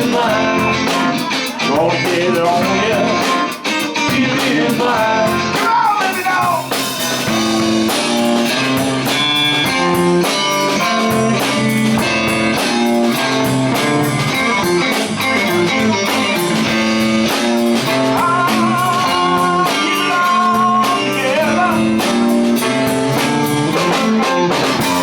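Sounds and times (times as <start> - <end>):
drum beat: 0.0 - 25.0
electric guitar: 0.0 - 25.0.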